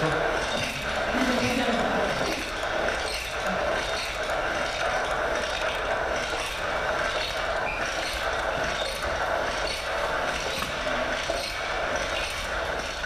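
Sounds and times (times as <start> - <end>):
leather staking machine running: 0.0 - 13.0.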